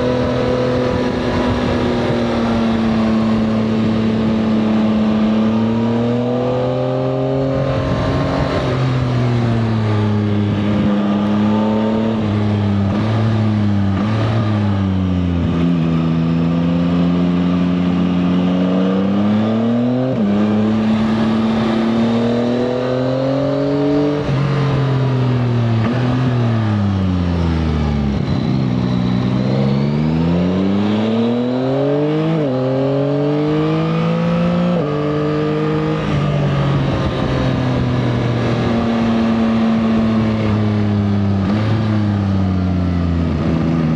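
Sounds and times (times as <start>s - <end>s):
motorcycle engine under way: 0.0s - 43.9s.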